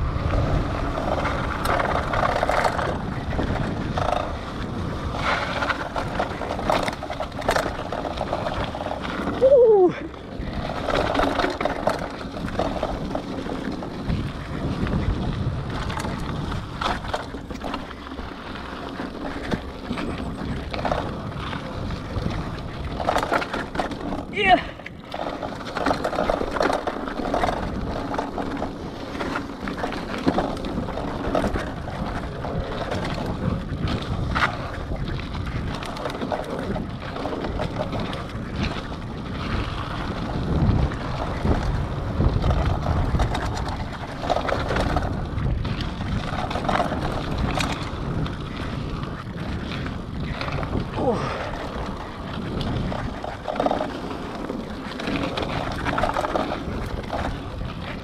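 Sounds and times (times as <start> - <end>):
bike clicks and rattles: 0.0 - 58.0
bike tyres rumbling on dirt: 0.0 - 58.0
wind buffeting microphone: 0.0 - 58.0.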